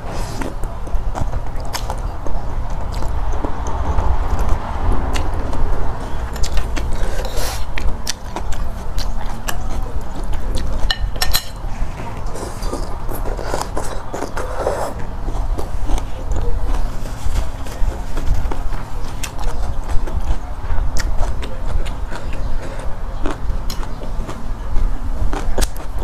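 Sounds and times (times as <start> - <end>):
chewing and slurping: 0.0 - 26.0.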